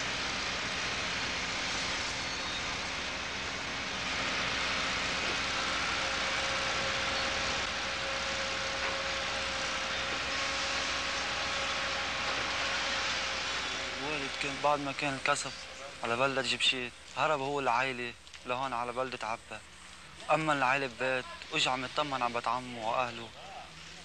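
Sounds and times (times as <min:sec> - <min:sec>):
distant engine drone: 0:00.0 - 0:24.0
faint steady hum: 0:00.0 - 0:24.0.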